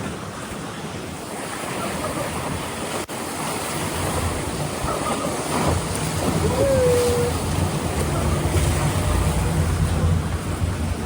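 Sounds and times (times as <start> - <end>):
rushing churning water: 0.0 - 11.0
wind buffeting microphone: 0.0 - 11.0.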